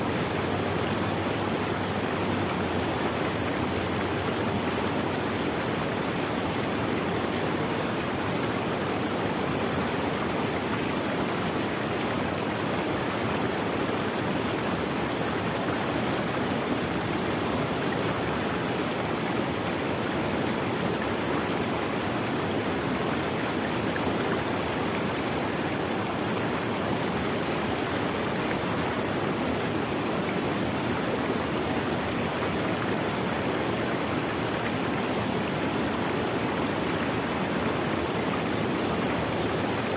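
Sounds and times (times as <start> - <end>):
stream running water: 0.0 - 39.9.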